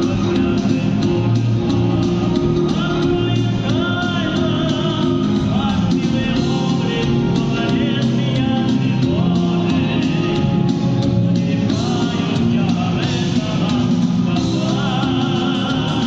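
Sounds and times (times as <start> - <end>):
instrumental accompaniment with beat: 0.0 - 16.0
man singing: 0.0 - 16.0.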